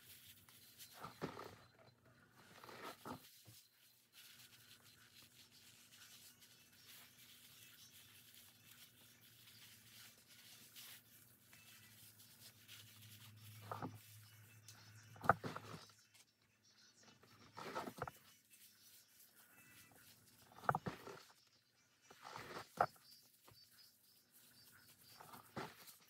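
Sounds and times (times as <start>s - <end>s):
gloved hands rubbing hair: 0.0s - 1.6s, 2.4s - 16.0s, 17.3s - 21.4s, 22.2s - 26.0s.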